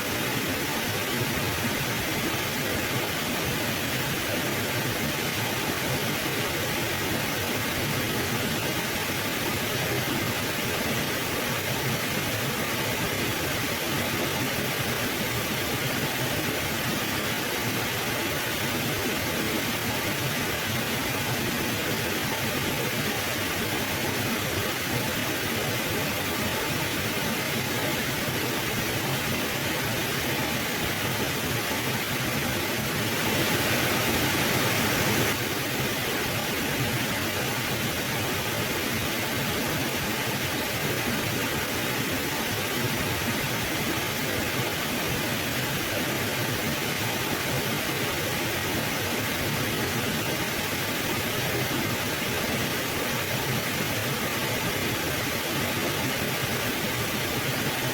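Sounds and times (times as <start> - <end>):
river water rushing: 0.1 - 57.9.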